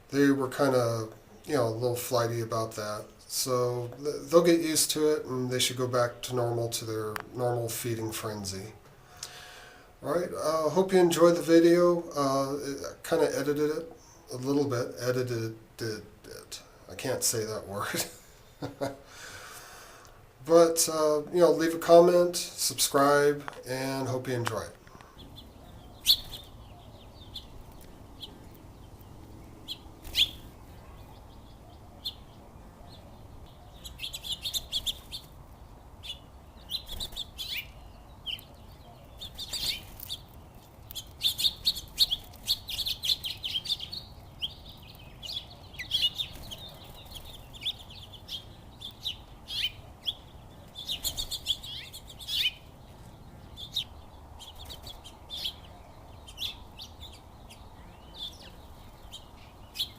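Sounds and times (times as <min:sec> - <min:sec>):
faint low background noise: 0:00.0 - 0:59.9
small songbirds chirping: 0:00.0 - 0:59.9.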